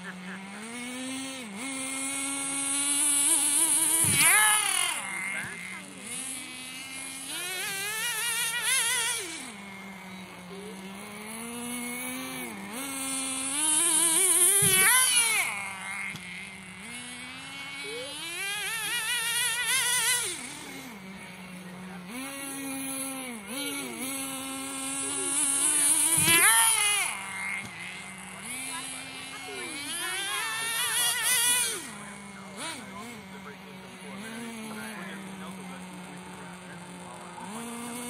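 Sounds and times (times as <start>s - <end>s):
rc truck nitro engine buzzing: 0.0s - 38.0s.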